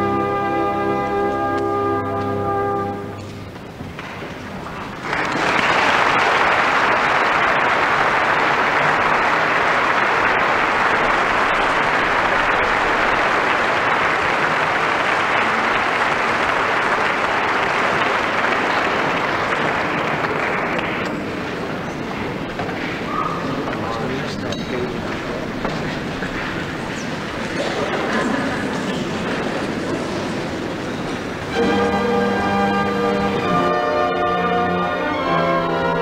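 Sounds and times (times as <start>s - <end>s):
concert audience applauding: 4.0s - 35.3s.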